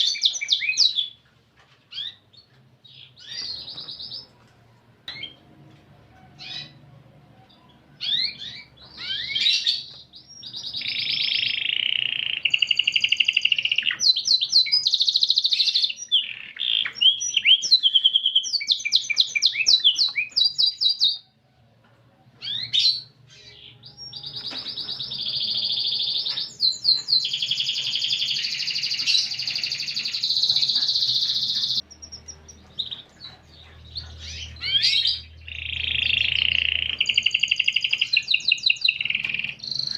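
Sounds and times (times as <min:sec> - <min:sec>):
canary singing trills: 0:00.0 - 0:01.2, 0:01.9 - 0:04.4, 0:06.1 - 0:21.4, 0:22.3 - 0:39.9.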